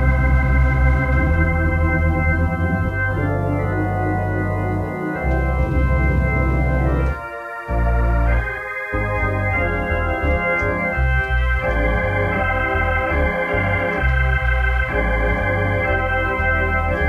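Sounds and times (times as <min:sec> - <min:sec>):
organ bass line: 0:00.0 - 0:17.0
organ playing held chords: 0:00.0 - 0:17.0.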